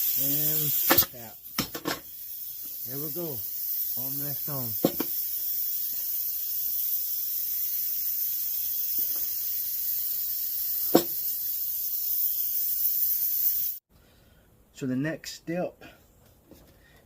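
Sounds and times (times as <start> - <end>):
steady high hiss: 0.0 - 13.9.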